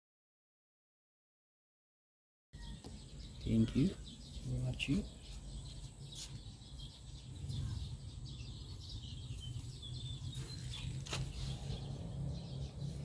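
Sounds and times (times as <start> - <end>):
small birds chirping: 2.6 - 13.0.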